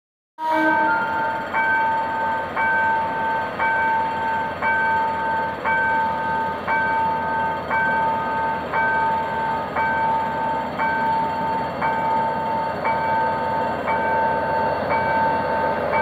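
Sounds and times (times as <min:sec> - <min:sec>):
level-crossing warning bell ringing: 0:00.4 - 0:16.0.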